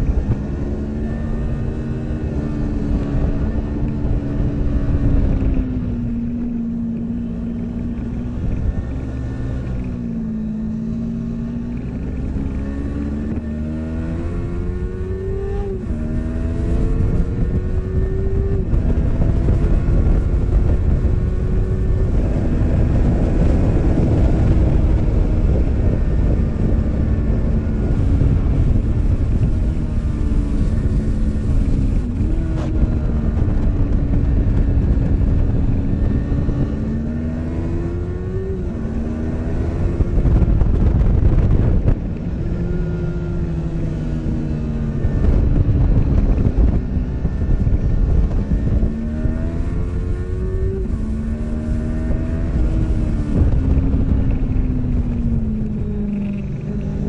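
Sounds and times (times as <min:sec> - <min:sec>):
motorcycle engine revving: 0:00.0 - 0:57.0
wind rumble on microphone: 0:00.0 - 0:57.0.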